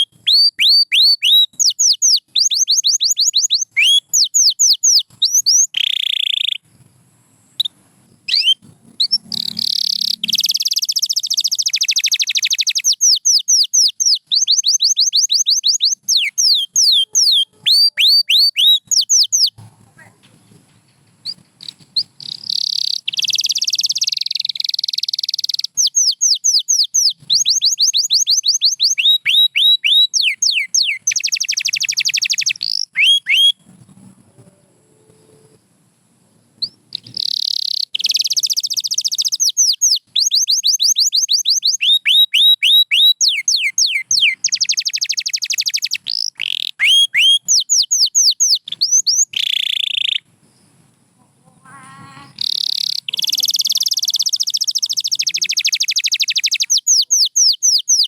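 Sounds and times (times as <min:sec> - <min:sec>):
canary singing: 0:00.0 - 0:06.7, 0:07.6 - 0:20.6, 0:21.2 - 0:33.8, 0:36.6 - 0:50.3, 0:51.2 - 0:58.0.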